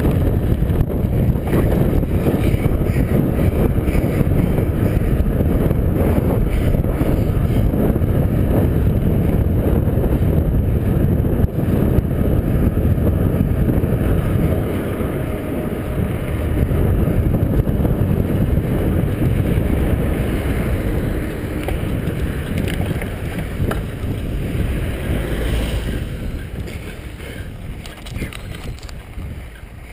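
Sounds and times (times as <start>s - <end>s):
tyres humming on road: 0.0s - 29.9s
wind buffeting microphone: 0.0s - 29.9s.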